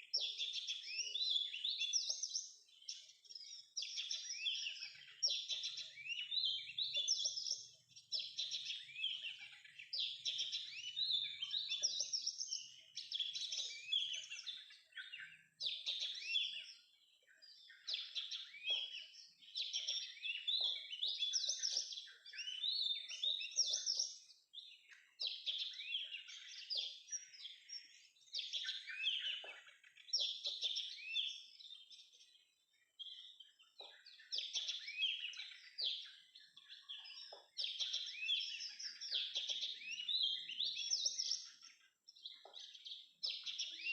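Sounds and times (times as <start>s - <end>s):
magpie-robin whistled song: 0.0s - 43.9s.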